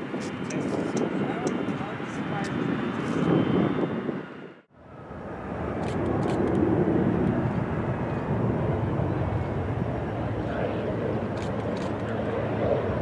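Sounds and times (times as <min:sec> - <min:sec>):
twin turboprop engines running: 0:00.0 - 0:13.0.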